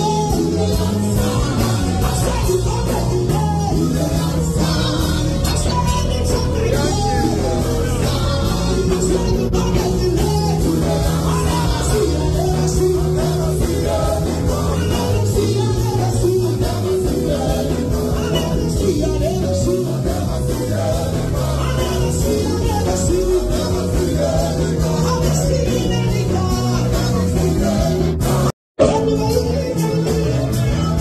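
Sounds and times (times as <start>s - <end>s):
loud party music with singer: 0.0s - 31.0s.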